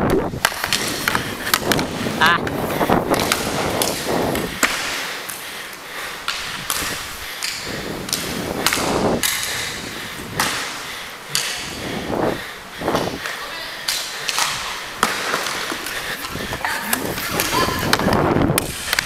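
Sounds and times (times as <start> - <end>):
skate wheels rolling and scraping: 0.0 - 12.2, 12.9 - 19.0
stick and puck clacks: 0.1 - 9.8, 10.4 - 11.8, 13.0 - 19.0.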